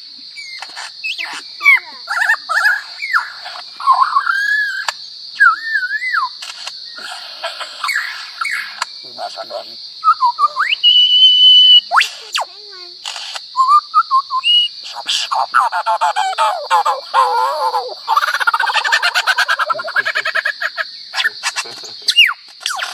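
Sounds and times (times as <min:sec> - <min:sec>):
bird calls and whistles: 0:00.3 - 0:08.9, 0:10.0 - 0:22.9.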